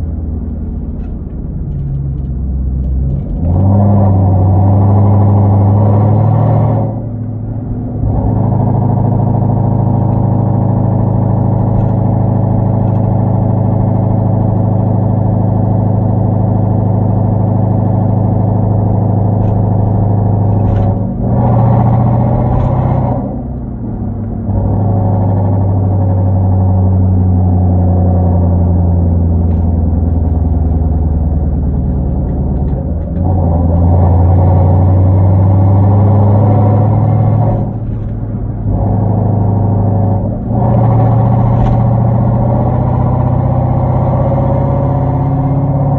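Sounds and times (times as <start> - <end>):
car exhaust droning while driving: 0.0 - 45.9.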